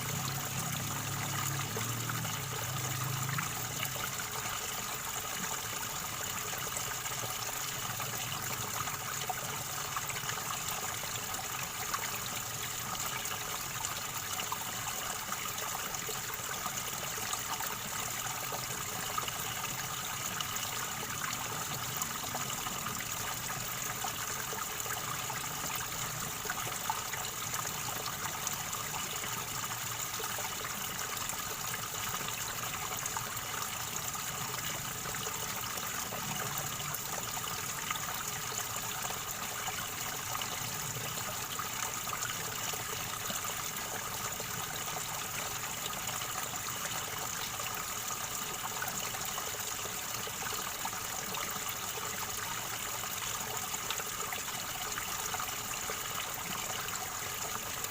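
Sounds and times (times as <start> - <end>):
river water gurgling over stones: 0.0 - 57.9.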